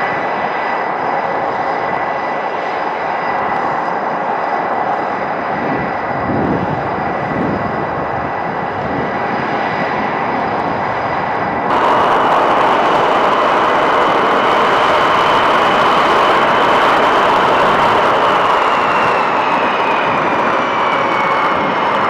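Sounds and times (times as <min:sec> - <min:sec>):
jet engine turbine whine: 0:00.0 - 0:22.0
jet exhaust rush: 0:00.0 - 0:22.0.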